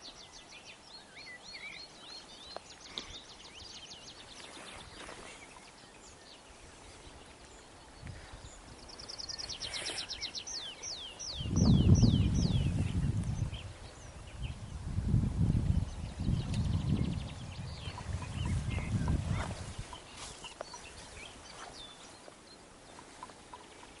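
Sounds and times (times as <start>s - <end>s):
songbirds singing trills: 0.0s - 24.0s.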